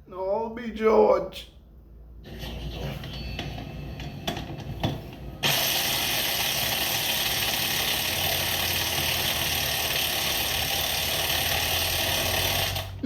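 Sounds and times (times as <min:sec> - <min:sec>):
dense mechanical noise: 0:02.2 - 0:13.0.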